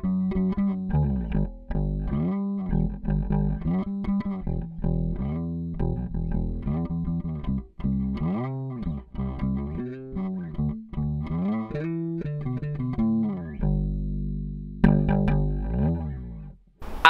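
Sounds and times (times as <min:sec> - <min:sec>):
bass guitar riff with bent notes: 0:00.0 - 0:16.6.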